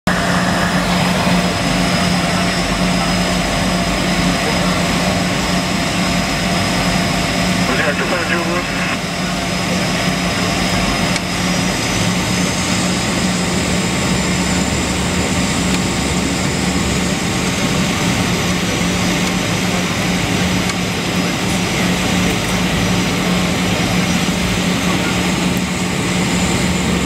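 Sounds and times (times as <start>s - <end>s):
turboprop engine drone: 0.0s - 27.0s.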